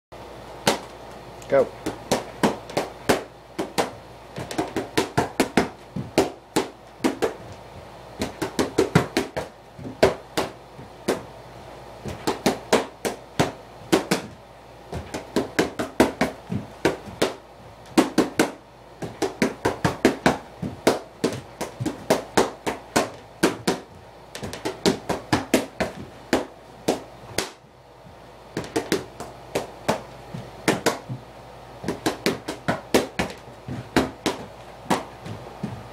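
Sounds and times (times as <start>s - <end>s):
boxing gloves smacking mitts: 0.6s - 1.0s, 1.8s - 11.4s, 12.0s - 35.9s.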